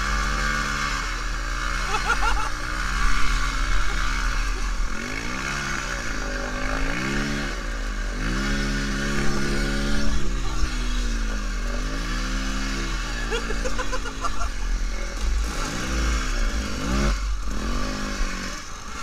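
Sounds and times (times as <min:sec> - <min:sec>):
dirt bike engine revving: 0:00.0 - 0:19.0
wheel spinning in mud: 0:00.0 - 0:19.0.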